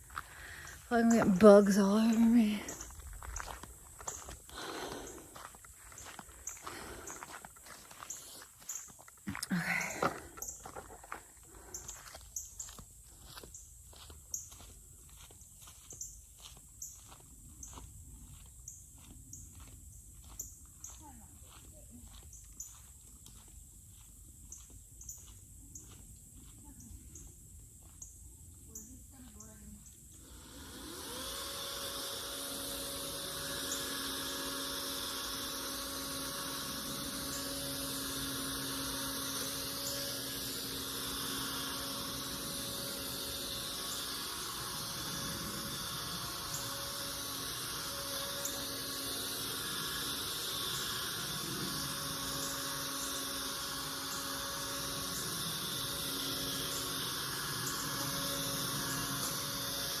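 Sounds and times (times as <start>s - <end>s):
motor running with whirring hum: 0.0s - 60.0s.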